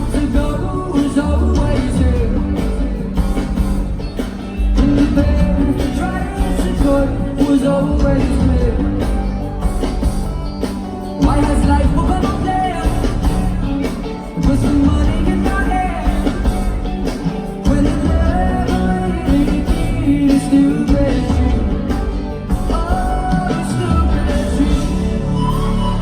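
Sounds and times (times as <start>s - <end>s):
person singing: 0.0s - 3.8s, 4.6s - 10.2s, 11.2s - 26.0s
live band with bass and drums: 0.0s - 26.0s.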